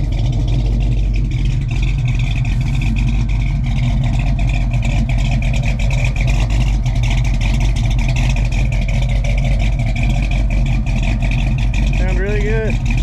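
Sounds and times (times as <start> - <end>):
v eight engine idling: 0.0 - 13.0.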